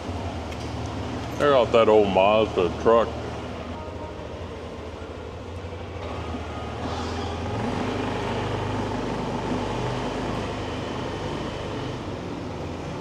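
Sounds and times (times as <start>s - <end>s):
street traffic: 0.0s - 13.0s
motorbike engine accelerating: 1.0s - 13.0s.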